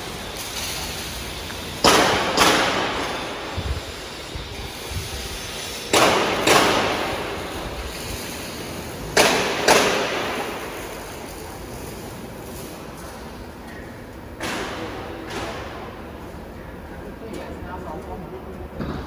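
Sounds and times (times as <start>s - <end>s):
heavy metallic bangs echoing: 0.0s - 16.5s.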